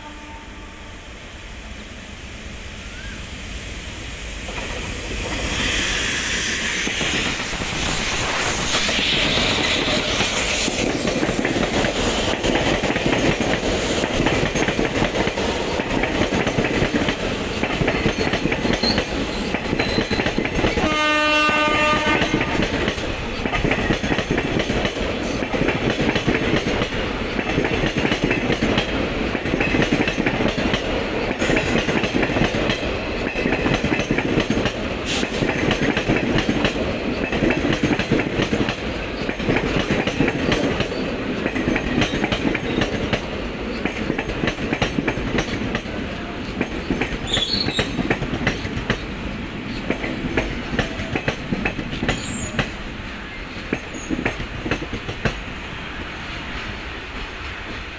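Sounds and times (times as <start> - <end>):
train rumble: 0.0 - 57.9
train wheels clattering over rail joints: 6.6 - 52.8, 53.5 - 55.5.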